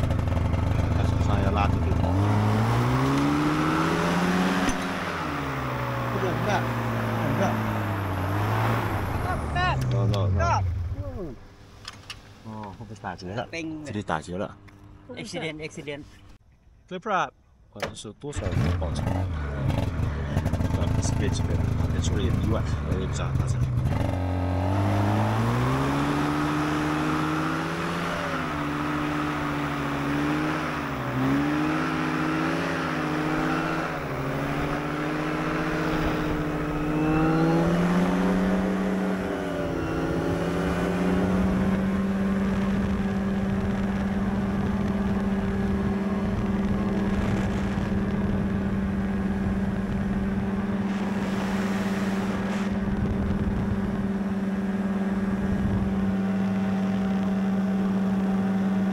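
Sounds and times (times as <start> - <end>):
paramotor engine and propeller: 0.0 - 16.4, 18.4 - 58.9.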